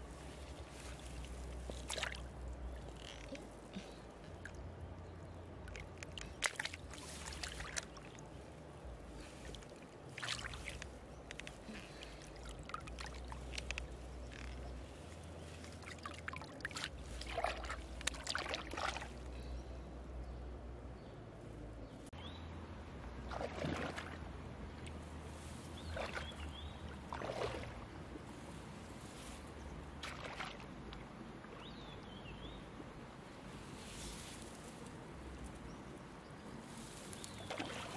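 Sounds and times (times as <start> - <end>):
river water splashing: 0.0 - 20.2, 21.6 - 37.9
steady low rumble: 0.0 - 37.9.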